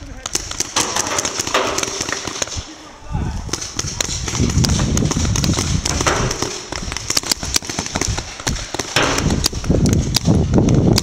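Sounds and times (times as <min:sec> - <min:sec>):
paintball guns popping: 0:00.2 - 0:02.7, 0:03.5 - 0:11.0.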